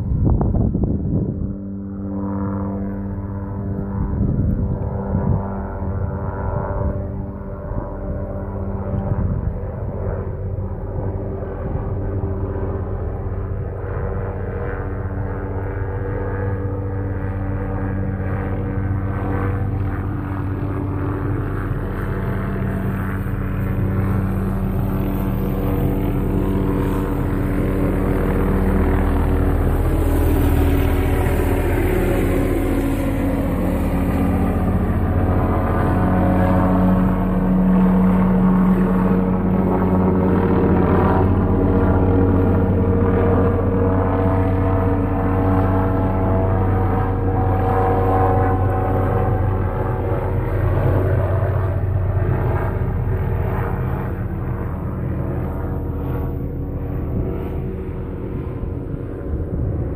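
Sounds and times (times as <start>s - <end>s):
aircraft engine humming: 0.0s - 59.9s.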